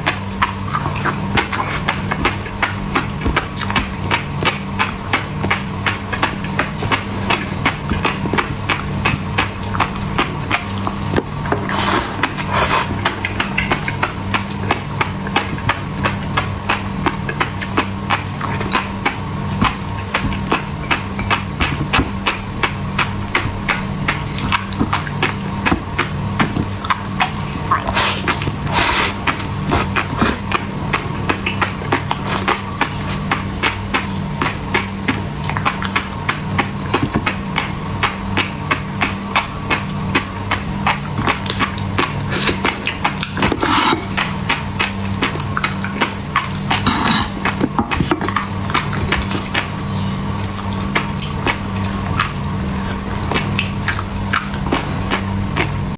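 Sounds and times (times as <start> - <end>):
crisp chewing clicks: 0.0 - 55.9
refrigerator hum: 0.0 - 55.9.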